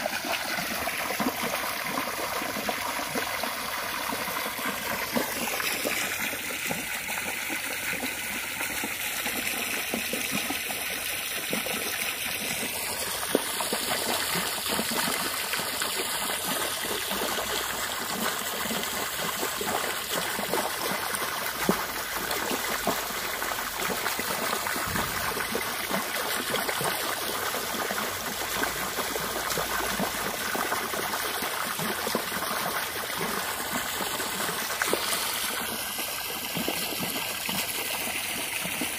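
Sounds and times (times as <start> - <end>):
hose water splashing into pool: 0.0 - 38.9.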